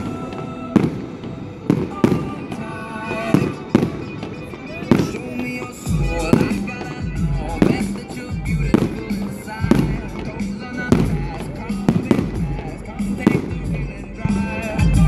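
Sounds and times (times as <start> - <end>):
fireworks bangs: 0.0 - 15.0
loud recorded music: 0.0 - 15.0.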